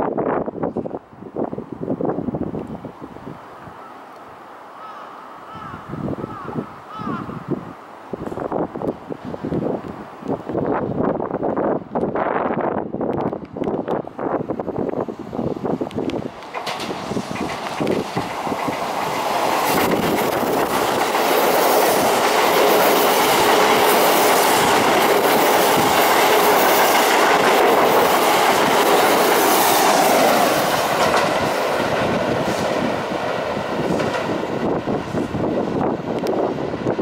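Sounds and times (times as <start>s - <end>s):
electric train passing at speed: 0.0s - 37.0s.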